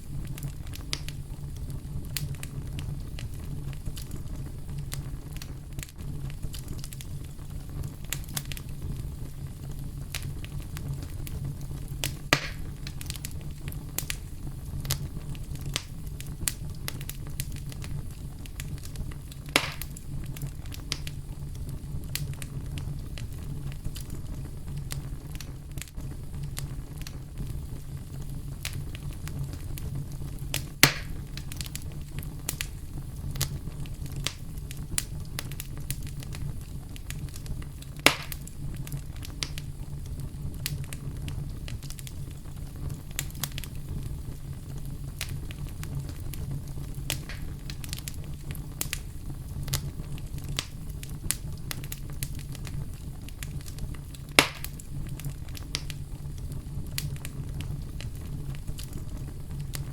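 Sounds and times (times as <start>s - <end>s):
campfire crackling: 0.0s - 59.9s
fire pops: 0.0s - 59.9s.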